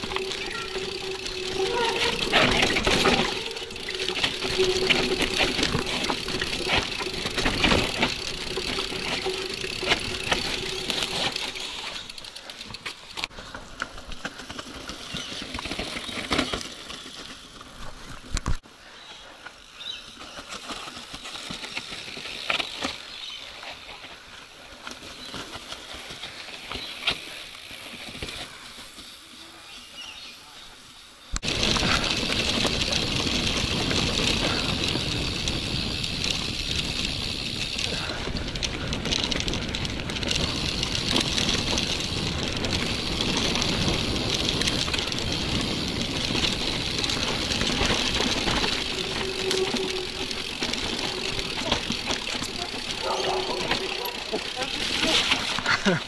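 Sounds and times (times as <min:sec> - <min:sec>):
bike rattling and knocking: 0:00.0 - 0:18.6, 0:20.2 - 0:23.3, 0:24.7 - 0:29.3, 0:31.4 - 0:56.0
bike tyres crunching on dirt: 0:00.0 - 0:56.0.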